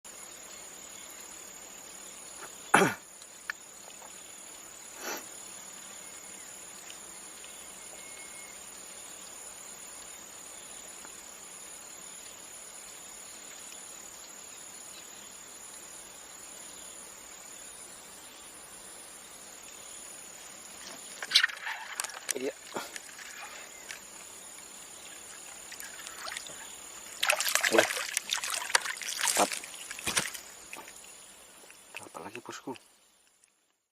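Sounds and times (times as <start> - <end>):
high-pitched insect chorus: 0.1 - 33.7.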